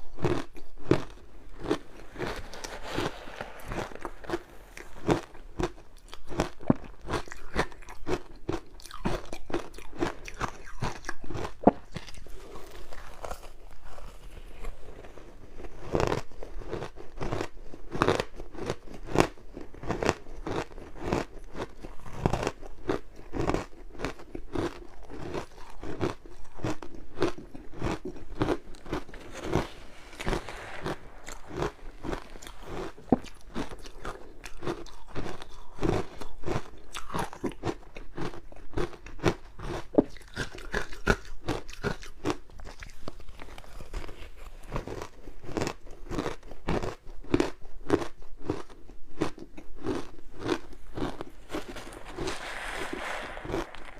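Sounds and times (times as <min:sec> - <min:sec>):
ice being bitten and chewed: 0:00.0 - 0:53.9.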